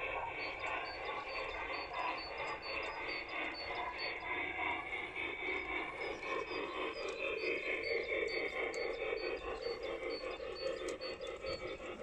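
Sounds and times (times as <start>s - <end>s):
model train wheels on rails: 0.0s - 12.0s.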